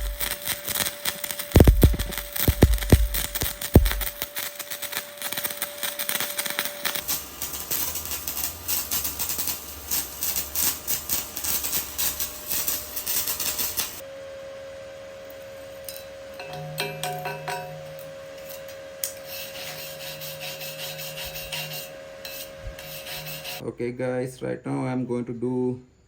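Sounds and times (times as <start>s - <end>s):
welding arc crackling: 0.0s - 14.0s, 15.4s - 23.6s.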